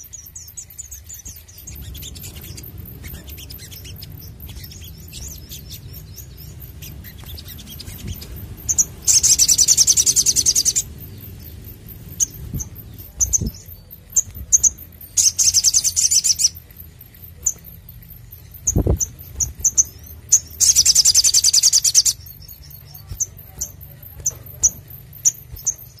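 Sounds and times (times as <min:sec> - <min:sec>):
bird chirping high: 0:00.0 - 0:26.0
fast rattling bird trills: 0:00.0 - 0:26.0.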